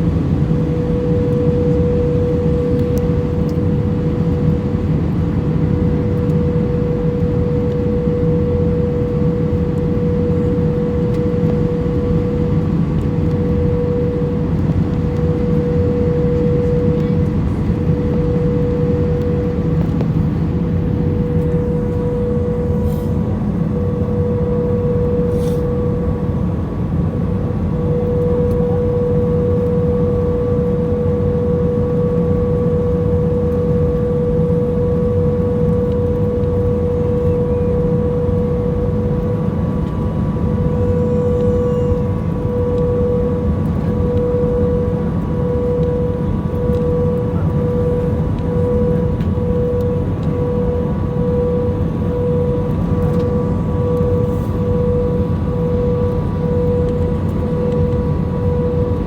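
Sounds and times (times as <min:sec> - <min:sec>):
pulsing held tone: 0:00.0 - 0:04.8, 0:05.4 - 0:59.0
airliner engine rumble: 0:00.0 - 0:59.0.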